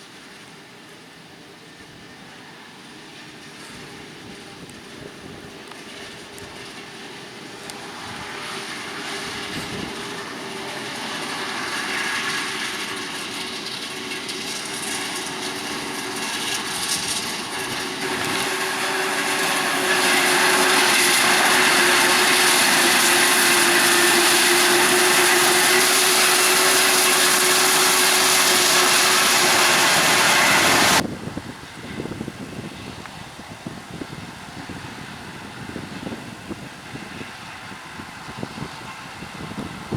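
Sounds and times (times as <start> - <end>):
harvest machinery engine: 0.0 - 39.9
strong rushing hiss: 6.5 - 39.9.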